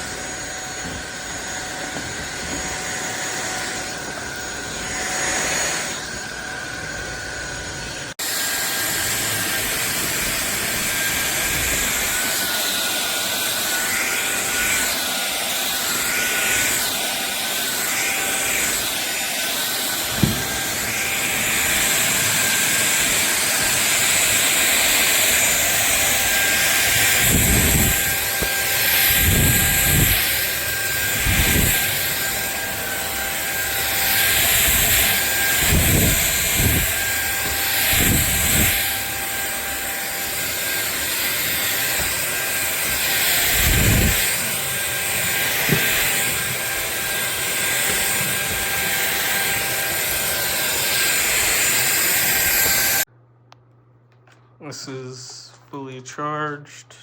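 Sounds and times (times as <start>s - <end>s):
vacuum cleaner running: 0.0s - 53.1s.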